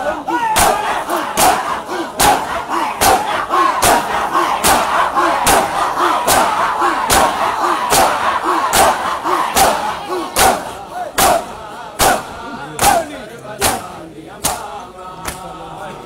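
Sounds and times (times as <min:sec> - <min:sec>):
crowd chanting: 0:00.0 - 0:16.0
crowd slapping chests in unison: 0:00.0 - 0:16.0.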